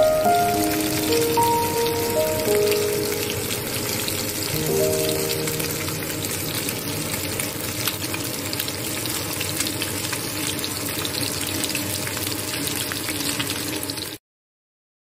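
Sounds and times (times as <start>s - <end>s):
fish sizzling in hot oil: 0.0s - 14.2s.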